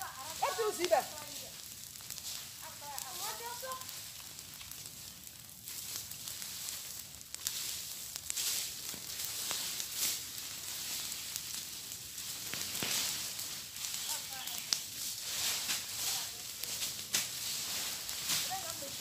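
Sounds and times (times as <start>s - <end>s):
fire popping: 0.0s - 19.0s
leaves and brush burning: 0.0s - 19.0s.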